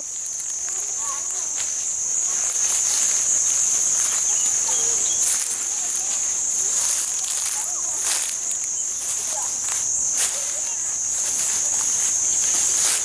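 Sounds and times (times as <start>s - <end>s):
high-pitched insect drone: 0.0s - 13.0s
rustling steps through undergrowth: 0.0s - 13.0s.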